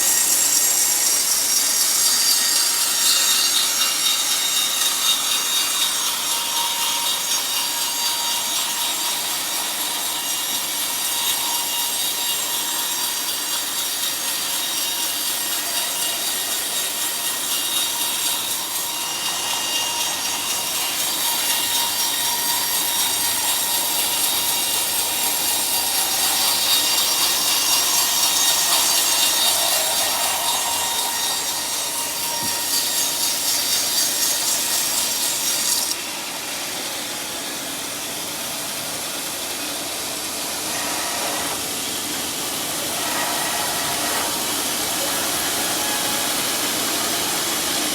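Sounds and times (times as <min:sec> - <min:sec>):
saw cutting through log: 0:00.0 - 0:47.9.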